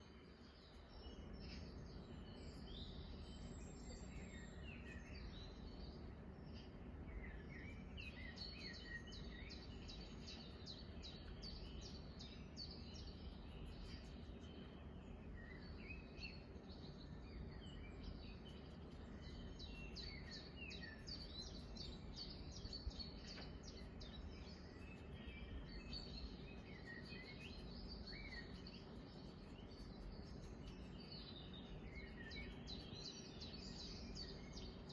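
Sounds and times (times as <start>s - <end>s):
low background hum: 0.0s - 34.9s
small birds chirping: 0.0s - 34.9s.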